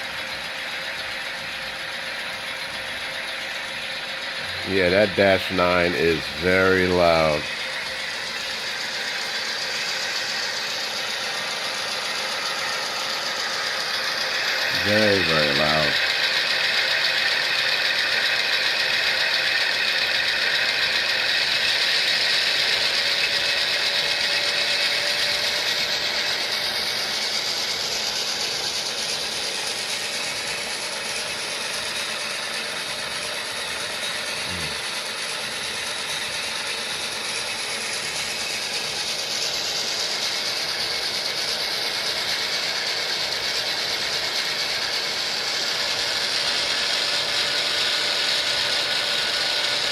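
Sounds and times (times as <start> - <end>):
model locomotive diesel rumble: 0.0 - 49.9.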